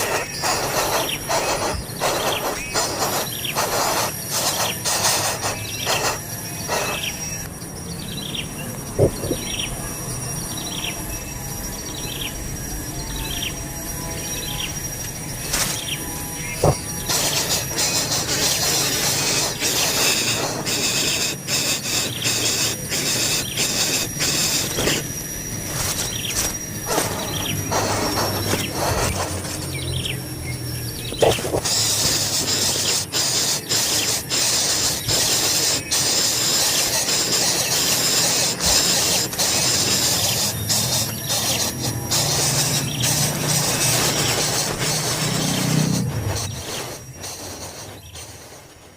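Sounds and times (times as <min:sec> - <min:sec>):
bird calling with falling chirps: 0:00.0 - 0:48.7
high insect whine: 0:00.0 - 0:48.9
loud high-pitched hiss: 0:00.0 - 0:48.9.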